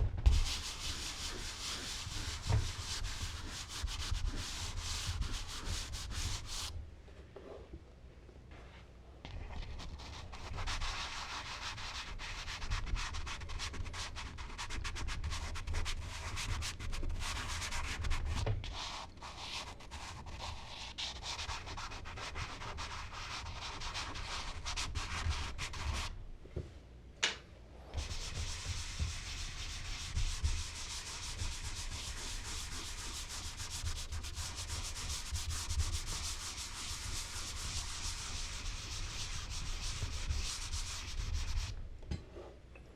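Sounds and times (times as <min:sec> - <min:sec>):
charcoal rubbing on paper: 0:00.2 - 0:06.7, 0:09.3 - 0:26.1, 0:28.0 - 0:41.8.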